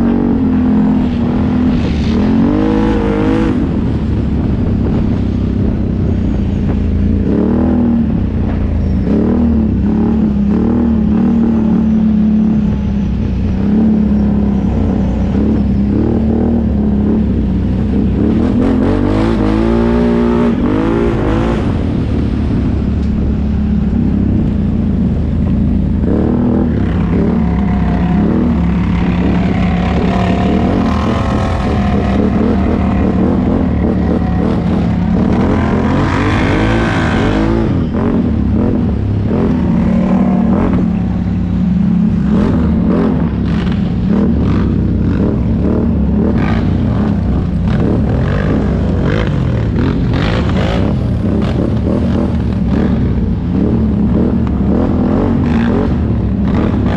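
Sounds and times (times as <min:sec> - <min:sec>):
atv engine revving: 0:07.1 - 0:12.8, 0:13.4 - 0:56.9.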